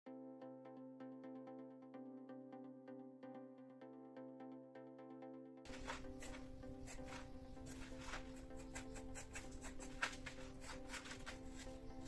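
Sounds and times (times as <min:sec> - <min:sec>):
quiet background music: 0:00.1 - 0:12.0.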